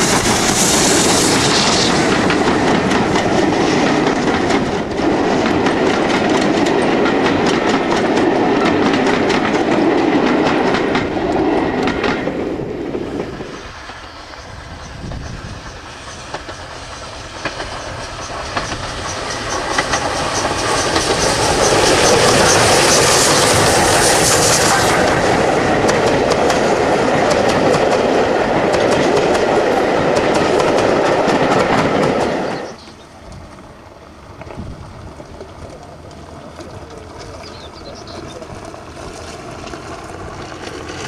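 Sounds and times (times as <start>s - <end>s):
steam train approaching: 0.0s - 41.0s
train wheels clicking over rail joints: 0.0s - 41.0s.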